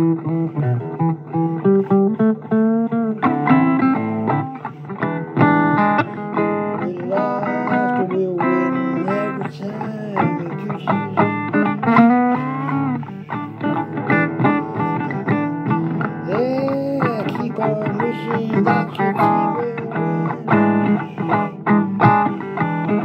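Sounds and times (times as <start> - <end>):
blues guitar playing: 0.0 - 23.0.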